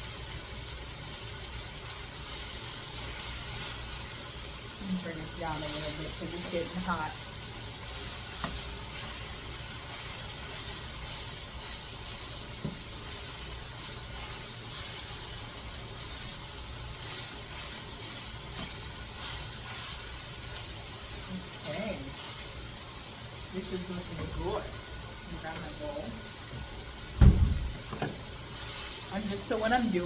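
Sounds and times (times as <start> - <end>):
chicken sizzling in a frying pan: 0.0 - 30.0.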